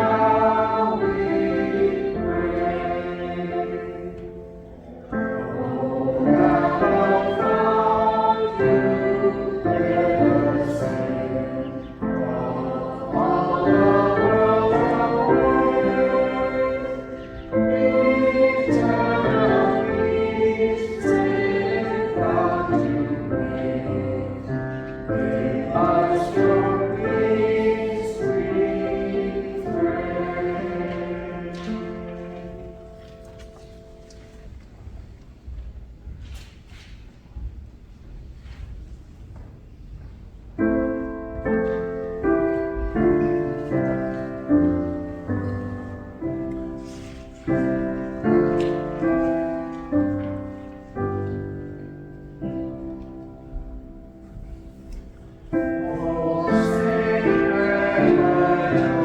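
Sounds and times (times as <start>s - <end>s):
church choir singing: 0.0s - 34.6s, 40.6s - 59.0s.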